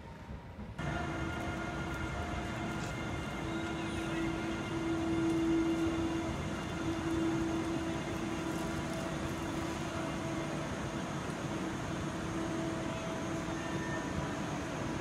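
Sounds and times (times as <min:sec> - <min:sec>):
electric locomotive traction hum: 0:00.0 - 0:15.0
train rumble: 0:00.0 - 0:15.0.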